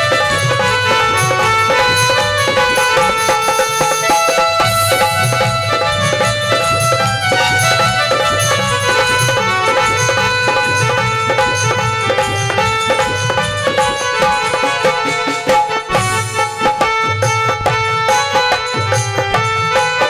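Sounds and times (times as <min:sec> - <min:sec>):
hand drum rhythm: 0:00.0 - 0:20.0
melody of held notes: 0:00.0 - 0:20.0.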